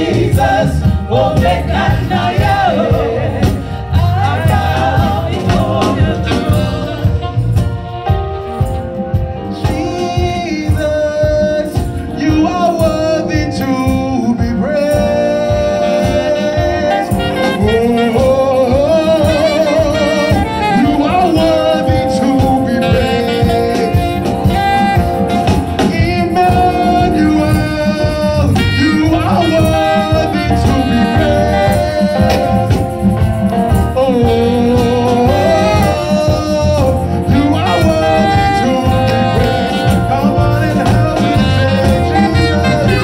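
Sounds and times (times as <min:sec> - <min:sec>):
voices singing: 0:00.0 - 0:07.9, 0:14.0 - 0:33.2, 0:33.9 - 0:43.0
band with steady beat: 0:00.0 - 0:43.0.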